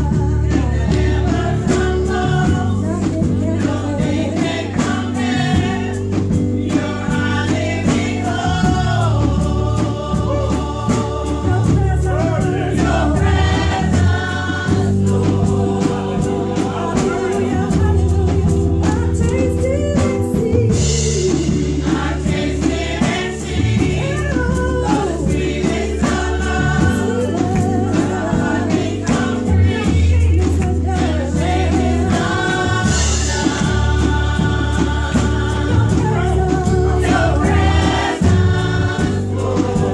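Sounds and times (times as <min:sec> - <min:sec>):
instrumental backing with bass: 0:00.0 - 0:39.9
women singing in harmony: 0:00.0 - 0:39.9.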